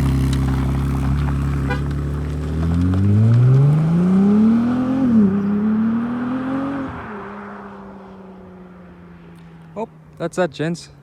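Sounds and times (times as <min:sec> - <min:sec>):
sports car engine accelerating: 0:00.0 - 0:10.2.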